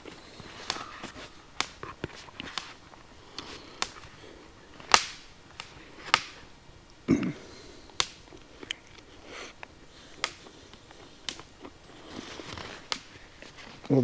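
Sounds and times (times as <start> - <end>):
faint hiss: 0.0 - 14.0
wood fire crackling and popping: 0.0 - 14.0.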